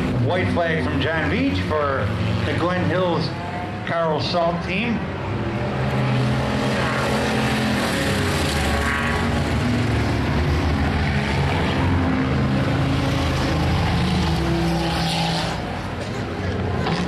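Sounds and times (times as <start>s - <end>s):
race car engines at high revs: 0.0s - 17.0s.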